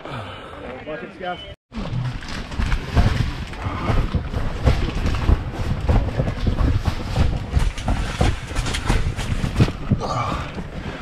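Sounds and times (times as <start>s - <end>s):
irregular thumps: 1.8s - 11.0s.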